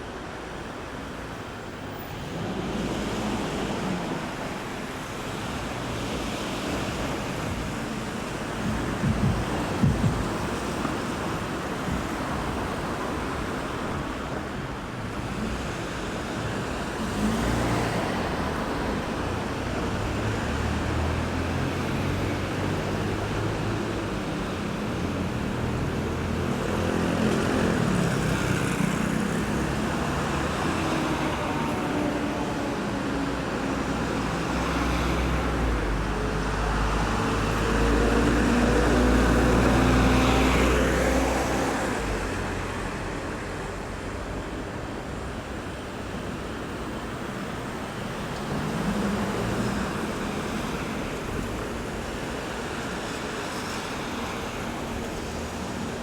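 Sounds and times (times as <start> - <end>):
passing cars and buses: 0.0 - 56.0.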